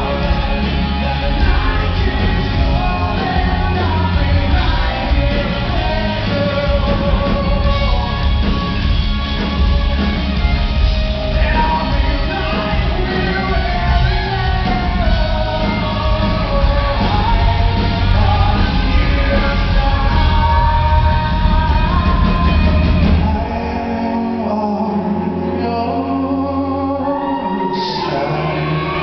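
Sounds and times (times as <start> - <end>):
man singing lead vocal: 0.0 - 29.0
rock band playing: 0.0 - 29.0.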